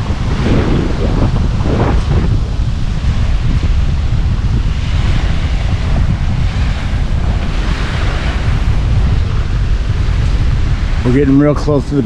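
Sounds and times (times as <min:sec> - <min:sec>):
small waves washing on beach: 0:00.0 - 0:12.0
wind buffeting microphone: 0:00.0 - 0:12.0.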